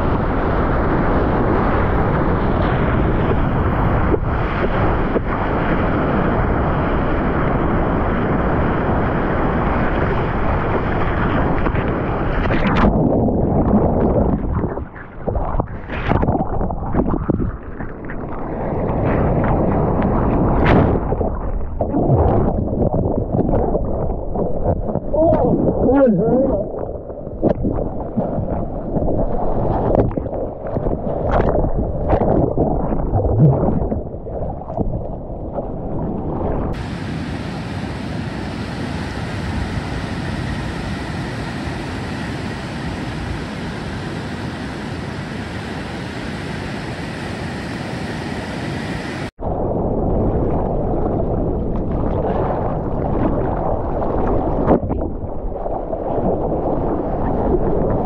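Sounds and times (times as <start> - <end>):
breaking surf: 0.0 - 34.1, 36.6 - 58.0
wind buffeting camera: 0.0 - 46.5, 49.2 - 58.0
muffled water rushing and splashing: 0.0 - 58.0.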